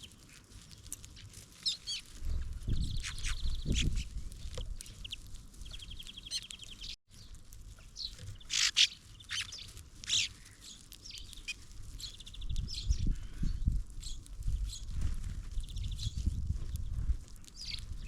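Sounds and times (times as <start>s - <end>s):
songbirds chirping: 1.6s - 14.9s, 15.6s - 18.0s.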